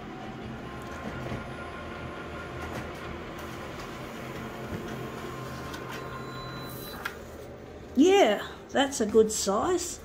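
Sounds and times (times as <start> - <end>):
photocopier humming: 0.0 - 9.6.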